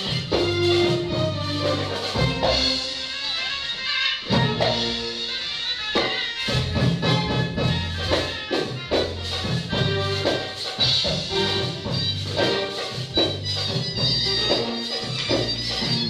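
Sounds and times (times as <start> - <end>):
steady drum beat: 0.0 - 3.5, 4.2 - 16.0.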